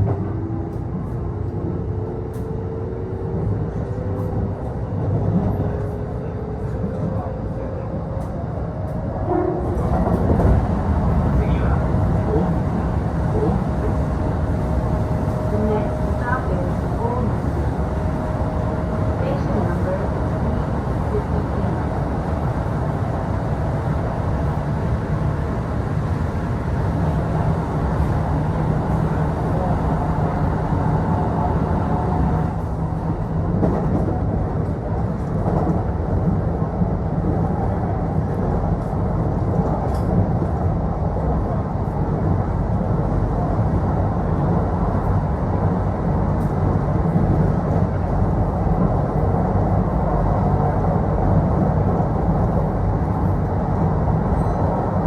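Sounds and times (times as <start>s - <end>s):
low train hum: 0.0s - 55.0s
train wheels rumbling on rail: 0.0s - 55.0s.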